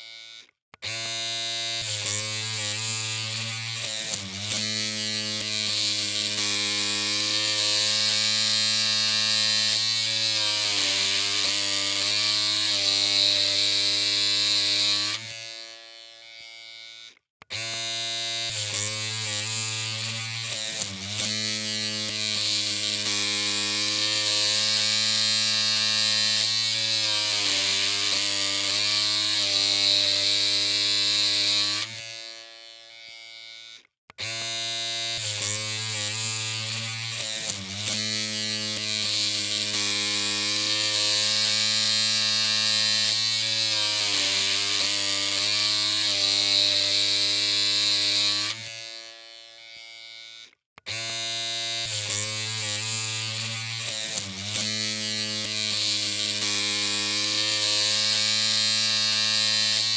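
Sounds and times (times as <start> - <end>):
electric hair clippers buzzing: 0.0 - 59.9.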